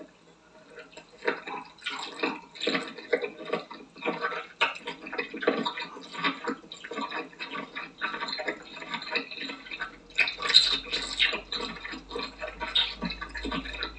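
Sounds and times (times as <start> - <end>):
wet chewing and slurping: 0.6 - 13.9.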